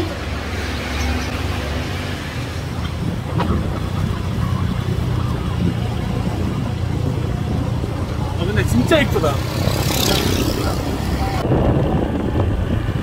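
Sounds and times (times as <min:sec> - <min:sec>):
road noise: 0:00.0 - 0:13.0
wind: 0:00.0 - 0:13.0.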